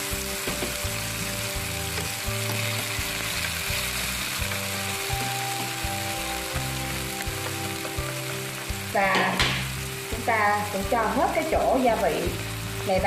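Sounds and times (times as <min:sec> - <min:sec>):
food sizzling in hot oil: 0:00.0 - 0:13.0
chopsticks stirring in a pan: 0:00.2 - 0:13.0.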